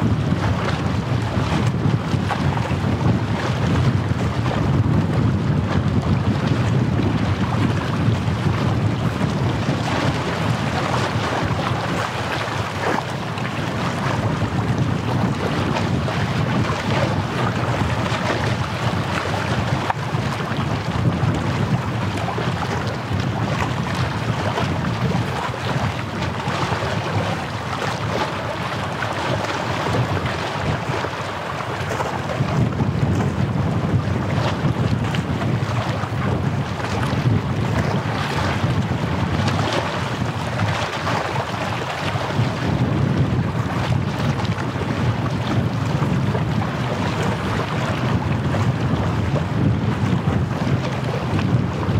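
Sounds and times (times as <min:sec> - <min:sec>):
sea waves washing in: 0:00.0 - 0:51.9
wind buffeting microphone: 0:00.0 - 0:51.9.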